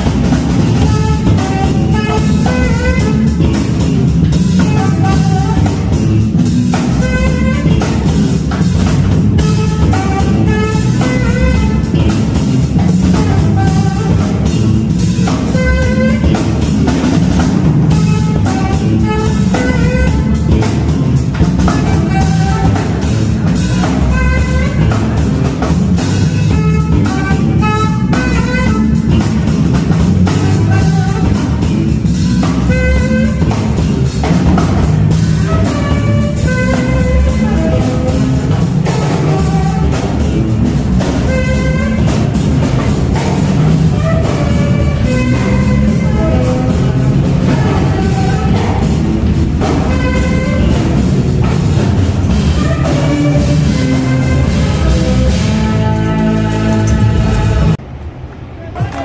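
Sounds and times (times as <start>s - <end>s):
music with drums and guitar: 0.0s - 57.8s.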